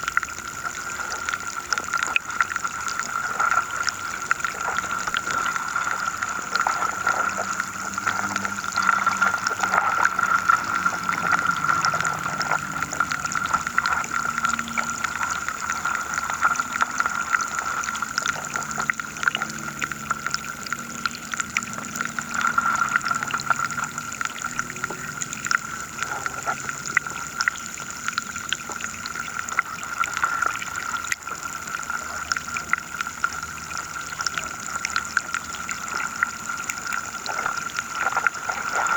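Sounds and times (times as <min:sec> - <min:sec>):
faint low hums: 0:00.0 - 0:38.9
underwater river hiss: 0:00.0 - 0:38.9.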